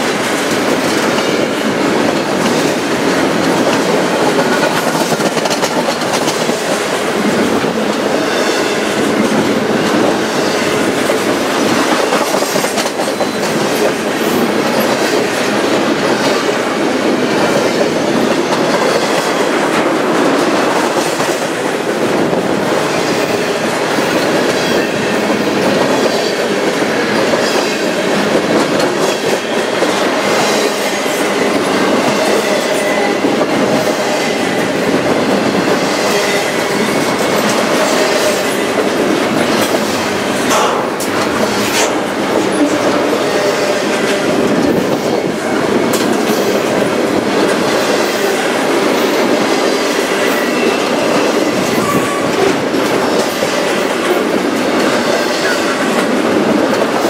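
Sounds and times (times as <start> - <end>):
wheels clacking over rail joints: 0.0 - 57.0.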